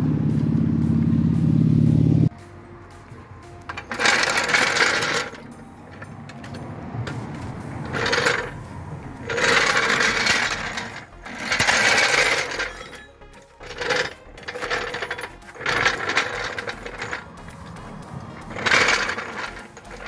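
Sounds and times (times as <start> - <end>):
jack wheels rattling on tarmac: 3.0 - 20.0.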